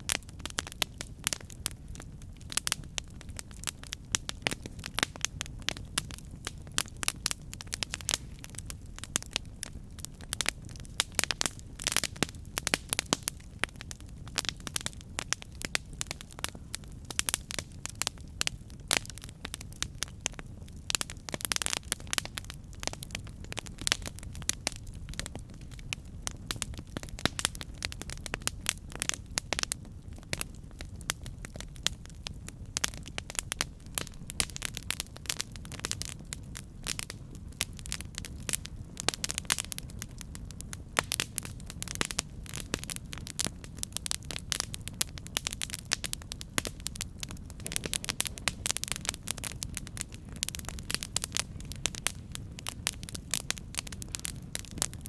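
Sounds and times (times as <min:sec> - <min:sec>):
campfire flames rumbling: 0:00.0 - 0:55.0
fire crackling and popping: 0:00.0 - 0:55.0.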